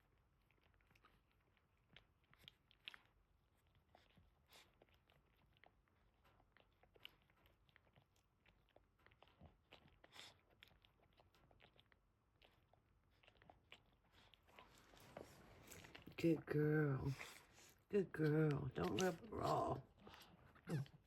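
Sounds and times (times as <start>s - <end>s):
dog licking wet smacks: 0.3s - 16.5s, 17.1s - 21.0s.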